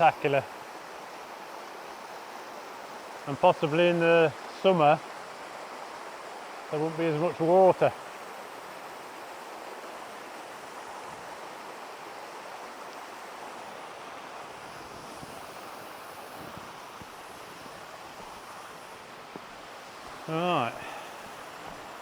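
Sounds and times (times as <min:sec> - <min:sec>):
waterfall rushing onto rocks: 0:02.2 - 0:22.0.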